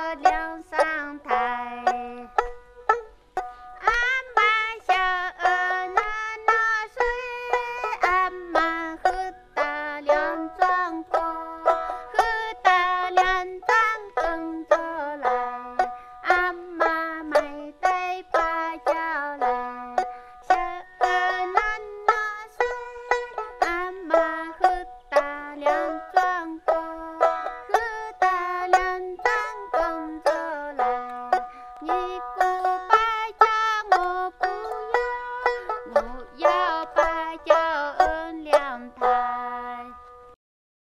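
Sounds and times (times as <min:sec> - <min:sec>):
plucked string melody: 0:00.0 - 0:40.4.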